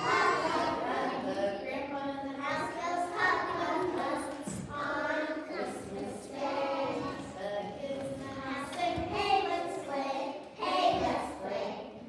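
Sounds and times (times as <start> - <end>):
young children singing together: 0.0 - 12.0.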